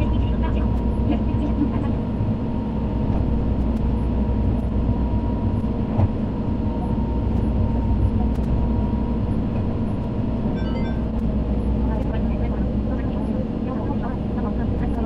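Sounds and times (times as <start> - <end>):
faint constant whine: 0.0 - 15.0
train running rumble: 0.0 - 15.0.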